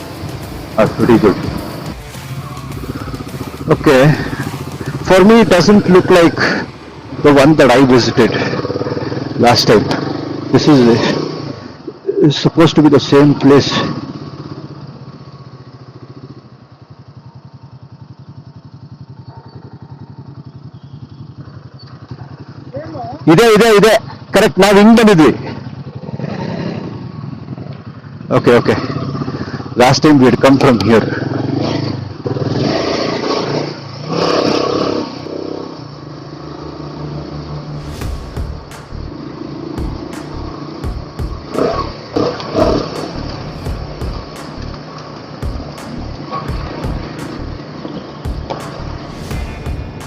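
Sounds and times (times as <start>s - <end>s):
motorcycle engine idling: 0.0s - 12.3s, 13.4s - 32.6s, 35.3s - 50.0s.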